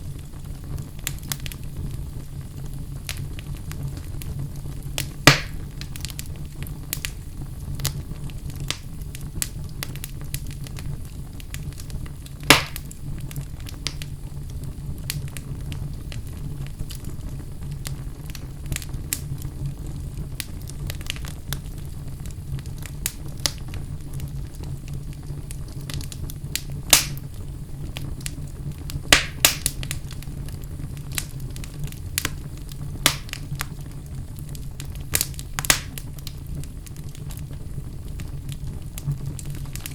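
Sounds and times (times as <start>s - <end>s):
burning logs crackling and popping: 0.0s - 39.9s
wood fire rumbling: 0.0s - 39.9s.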